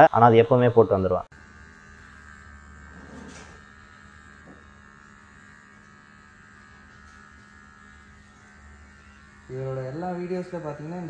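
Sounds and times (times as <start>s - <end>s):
electric hair trimmer buzzing: 0.0s - 11.0s.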